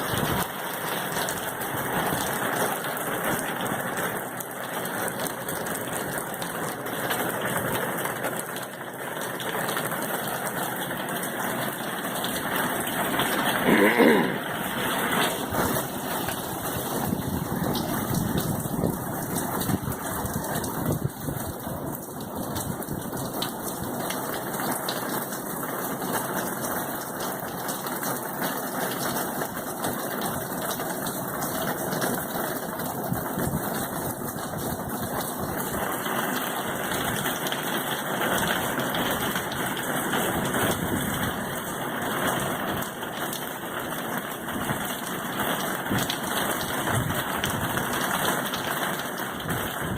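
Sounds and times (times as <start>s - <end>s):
heavy rain downpour: 0.0s - 49.9s.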